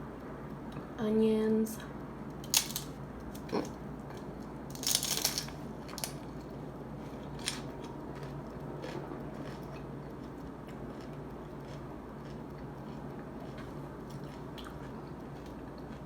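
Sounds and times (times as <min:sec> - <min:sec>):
taco shell crunching: 0:02.4 - 0:16.0.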